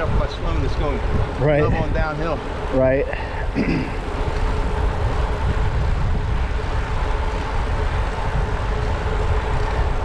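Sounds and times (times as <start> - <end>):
faint constant hum: 0.0 - 10.0
wind buffeting microphone: 0.0 - 10.0.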